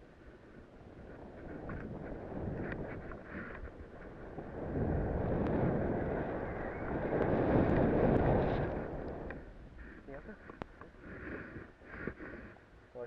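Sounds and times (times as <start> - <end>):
wind on microphone: 0.0 - 12.6.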